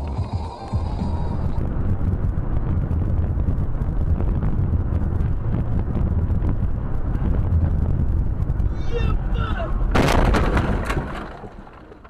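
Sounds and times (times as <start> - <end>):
wind noise on microphone: 0.0 - 11.9
vehicle rumble: 0.0 - 12.0.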